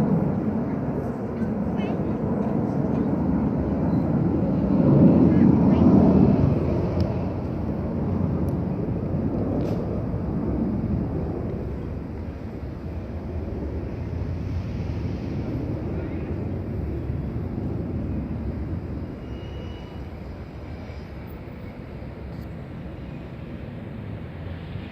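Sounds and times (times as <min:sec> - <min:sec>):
jet engines rumbling: 0:00.0 - 0:24.9.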